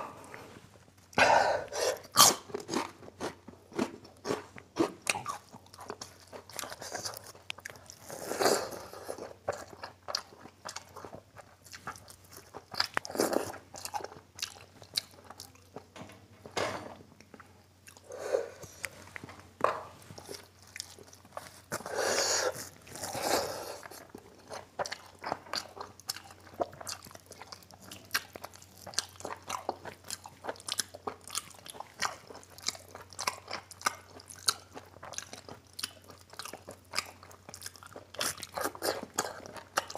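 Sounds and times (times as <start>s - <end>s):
chewing and biting food: 1.9s - 15.9s, 17.2s - 39.9s.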